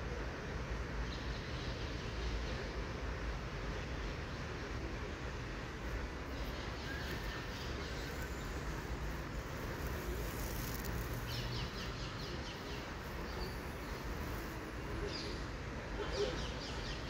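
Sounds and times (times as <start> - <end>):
low outdoor rumble: 2.0 - 17.0.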